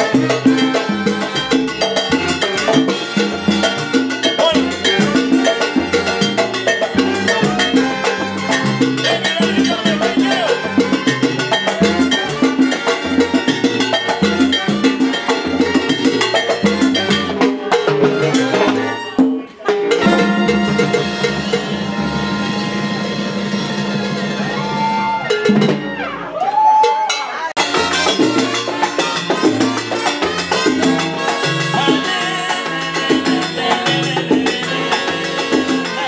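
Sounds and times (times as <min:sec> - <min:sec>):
salsa band playing: 0:00.0 - 0:36.0.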